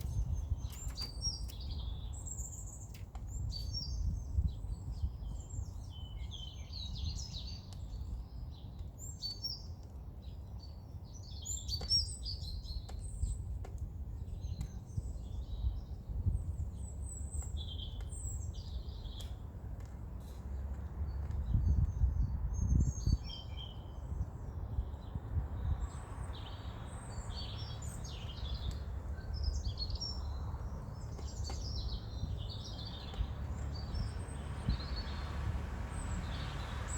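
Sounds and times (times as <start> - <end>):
low rumble of background noise: 0.0 - 36.9
songbirds singing and chirping: 0.0 - 36.9.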